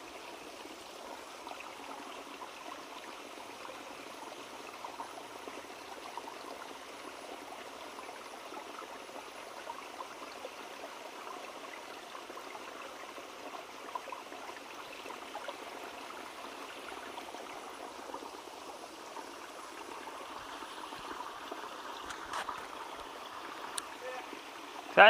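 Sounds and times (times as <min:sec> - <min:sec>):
stream flowing water: 0:00.0 - 0:25.0.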